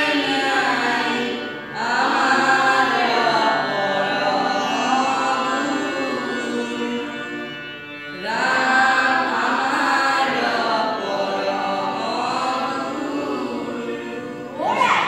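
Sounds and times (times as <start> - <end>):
devotional chant-like singing: 0.0 - 15.0
musical accompaniment: 0.0 - 15.0.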